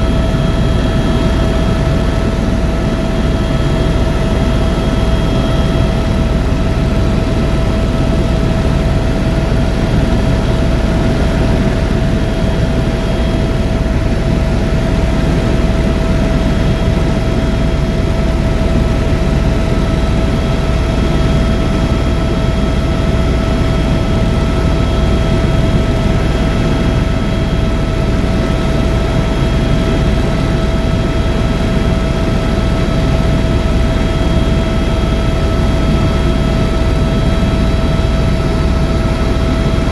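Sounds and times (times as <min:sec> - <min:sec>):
constant whine: 0:00.0 - 0:39.9
helicopter engine and rotor noise: 0:00.0 - 0:39.9.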